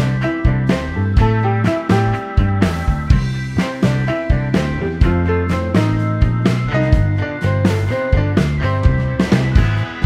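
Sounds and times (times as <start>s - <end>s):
steady beat: 0.0s - 10.0s
upbeat music with plucked guitar: 0.0s - 10.0s.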